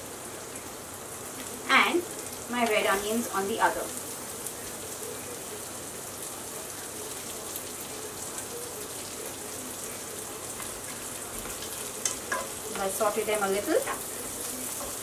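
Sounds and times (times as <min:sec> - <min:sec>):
oil sizzling in a frying pan: 0:00.0 - 0:15.0.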